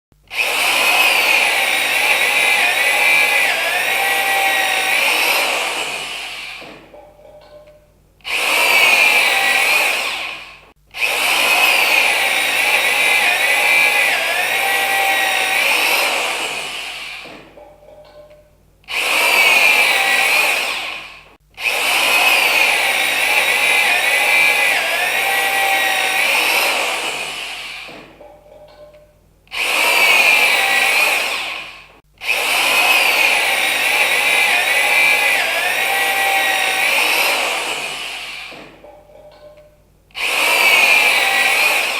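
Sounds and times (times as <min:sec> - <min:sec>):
electric saw motor: 0:00.3 - 0:06.8, 0:08.2 - 0:17.7, 0:18.9 - 0:28.2, 0:29.5 - 0:38.8, 0:40.2 - 0:41.9.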